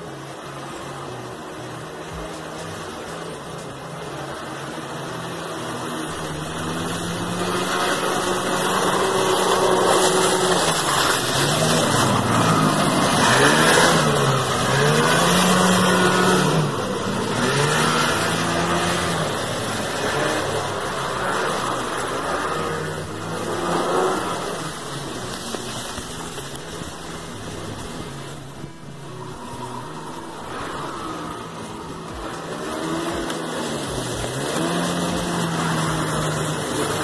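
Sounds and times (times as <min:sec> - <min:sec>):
snowmobile engine revving: 0:01.4 - 0:37.0.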